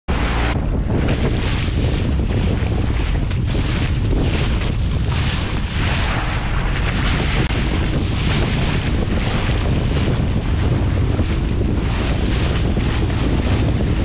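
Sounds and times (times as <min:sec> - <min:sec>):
water rushing and splashing: 0:00.1 - 0:14.0
wind buffeting microphone: 0:00.1 - 0:14.0.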